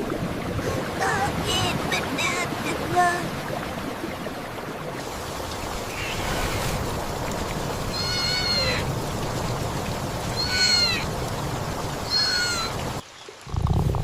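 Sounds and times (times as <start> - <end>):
flowing water: 0.0 - 14.0.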